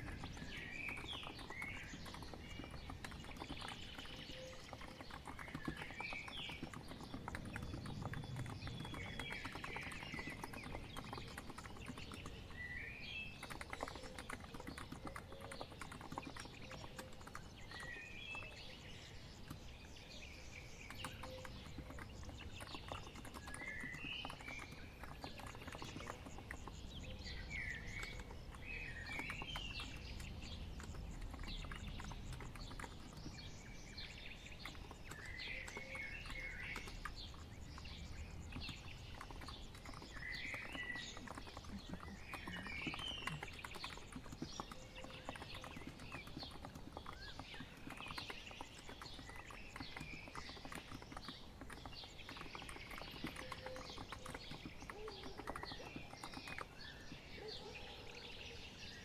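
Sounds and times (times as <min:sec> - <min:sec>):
keyboard typing: 0:00.0 - 0:20.0, 0:20.6 - 0:57.3
birds chirping: 0:00.0 - 0:59.0.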